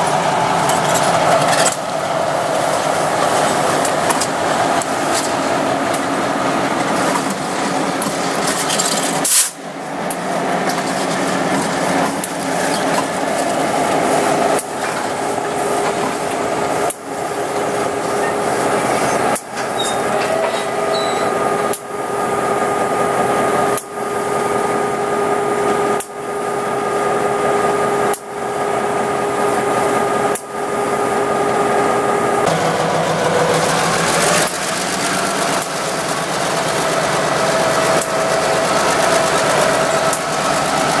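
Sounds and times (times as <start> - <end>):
diesel locomotive engine running: 0.0 - 41.0.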